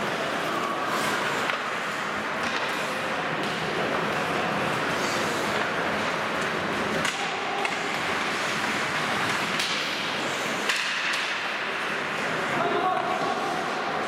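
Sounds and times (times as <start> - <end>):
hockey sticks and puck cracking: 0.0 - 14.0
ice rink noise: 0.0 - 14.0.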